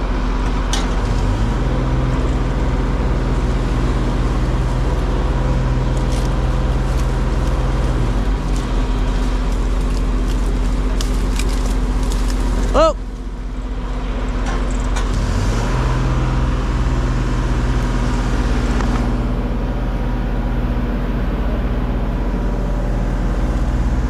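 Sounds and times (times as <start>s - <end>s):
crane engine running: 0.0s - 24.0s.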